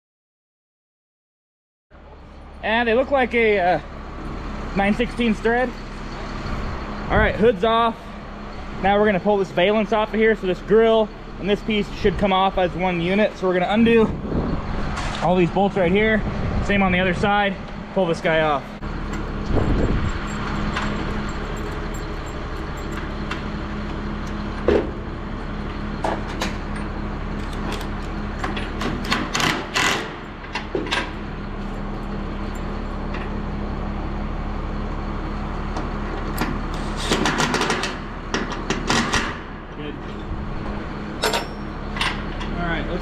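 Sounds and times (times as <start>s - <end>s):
steady low hum: 2.0s - 43.0s.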